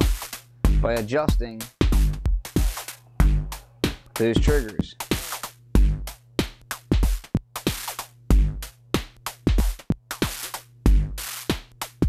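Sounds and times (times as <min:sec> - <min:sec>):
electronic drum beat: 0:00.0 - 0:12.0.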